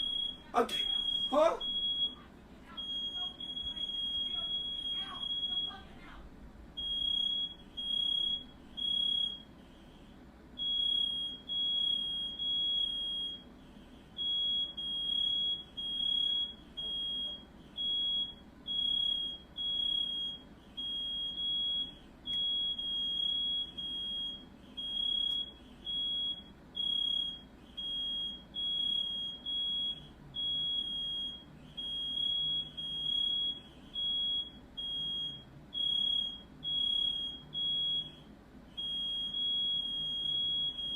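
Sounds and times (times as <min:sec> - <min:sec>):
smoke alarm beeping: 0:00.0 - 0:02.2, 0:02.8 - 0:05.8, 0:06.8 - 0:09.9, 0:10.6 - 0:13.6, 0:14.2 - 0:40.9.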